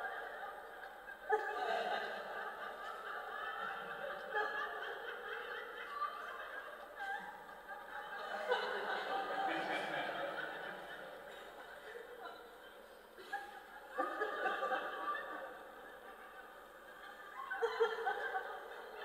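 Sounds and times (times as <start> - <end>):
audience laughing: 0.0 - 19.0.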